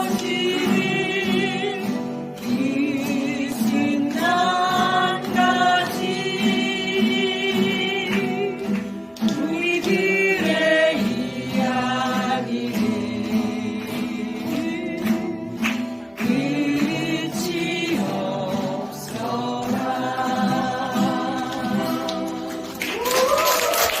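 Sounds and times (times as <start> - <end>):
children singing in unison: 0.0 - 15.2, 16.2 - 22.8
strummed acoustic guitars: 0.0 - 24.0.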